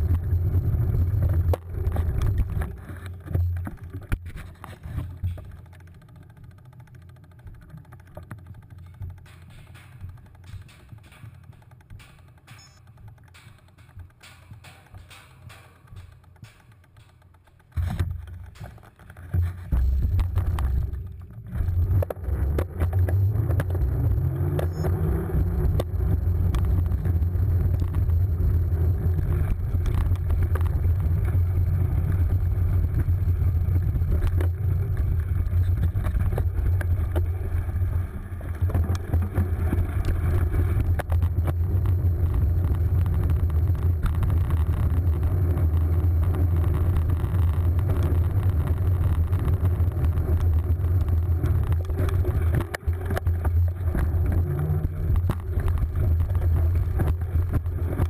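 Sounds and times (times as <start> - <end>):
knocks and rattles from bumps: 0.0 - 58.0
low rumble of bike riding: 0.0 - 58.0.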